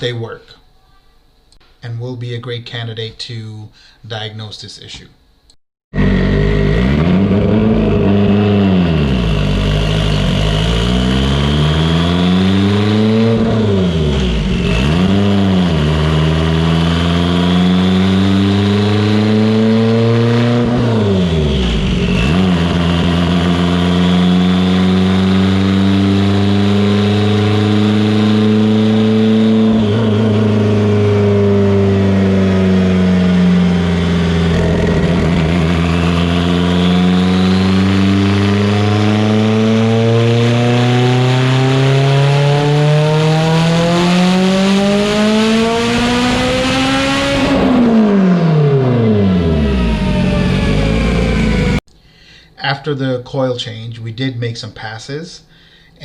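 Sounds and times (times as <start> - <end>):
car engine revving on a dyno: 5.9 - 51.8.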